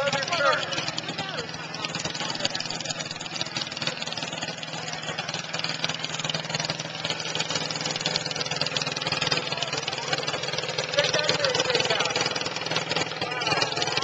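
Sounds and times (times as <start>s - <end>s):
small tractor engine running: 0.0s - 14.0s.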